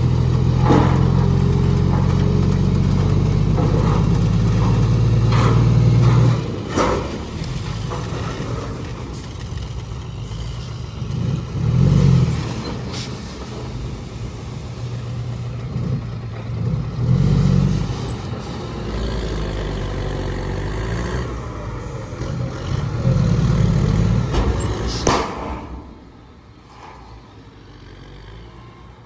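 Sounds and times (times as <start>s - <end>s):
heavy diesel machinery engine surging: 0.0s - 29.0s.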